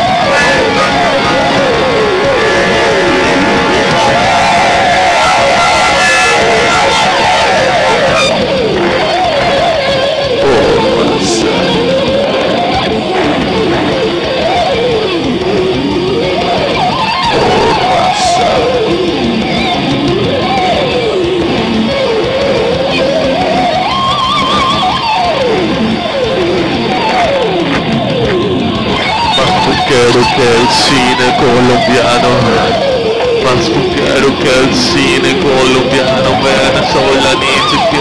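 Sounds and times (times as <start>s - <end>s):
electric guitar melody: 0.0s - 38.0s
rock band playing: 0.0s - 38.0s.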